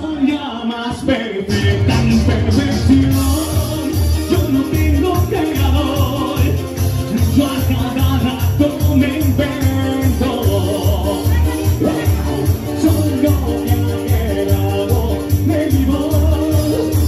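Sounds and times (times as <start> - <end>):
latin backing music with bass beat: 0.0 - 17.0
man singing into microphone: 0.0 - 17.0.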